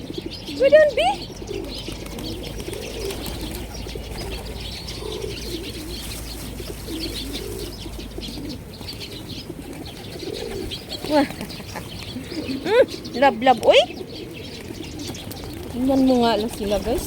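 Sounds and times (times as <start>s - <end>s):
low wavering bird calls: 0.0s - 17.0s.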